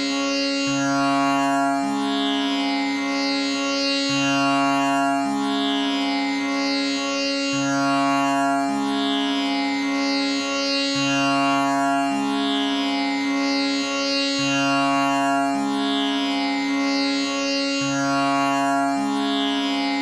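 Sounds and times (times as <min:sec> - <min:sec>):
tanpura drone: 0:00.0 - 0:20.0.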